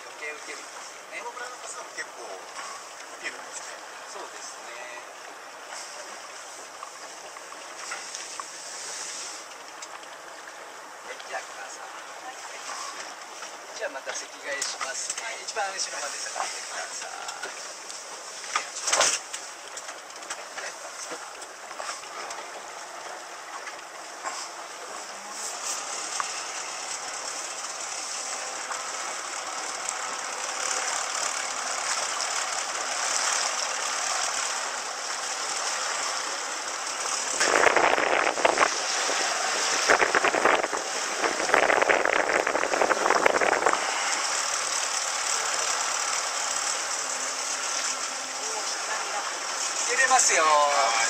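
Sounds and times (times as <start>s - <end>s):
hull splashing on waves: 0.0s - 51.0s
motorboat engine and water rush: 0.0s - 51.0s.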